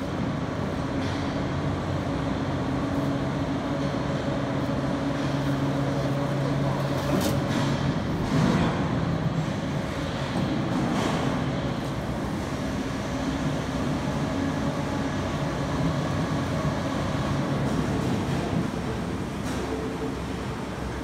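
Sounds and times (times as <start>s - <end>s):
mechanical hum with low tones: 0.0s - 21.0s.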